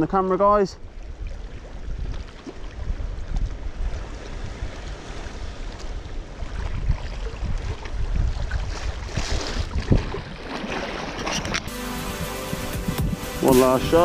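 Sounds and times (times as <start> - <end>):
wind buffeting microphone: 0.8 - 11.7, 12.5 - 14.0.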